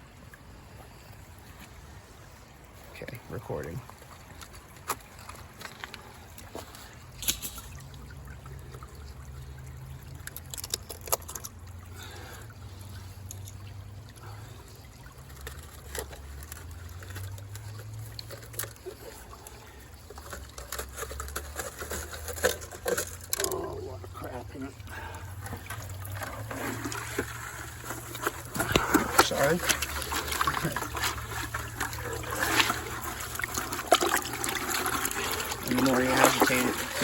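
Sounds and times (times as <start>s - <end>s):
water trickling and pouring: 0.0s - 37.0s.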